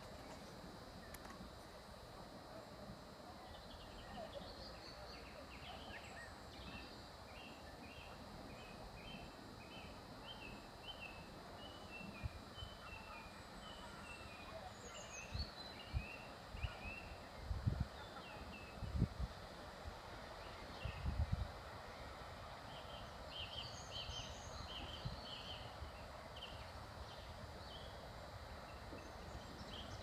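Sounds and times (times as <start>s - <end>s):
faint background noise: 0.0s - 30.0s.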